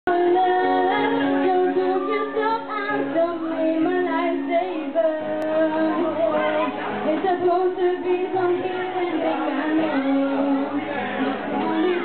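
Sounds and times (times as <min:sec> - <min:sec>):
girls singing into microphones: 0:00.1 - 0:12.0.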